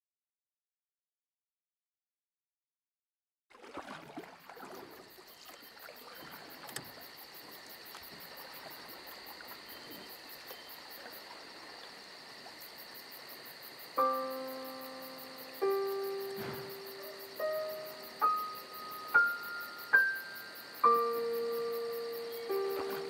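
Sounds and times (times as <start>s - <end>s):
insects chirping: 3.5s - 23.0s.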